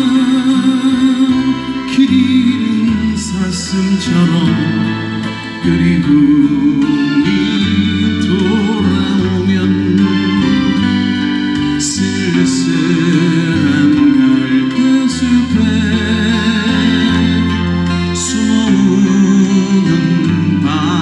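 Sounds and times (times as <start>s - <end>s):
acoustic guitar: 0.0s - 21.0s
man singing a ballad: 0.0s - 21.0s
steady bass notes: 0.0s - 21.0s.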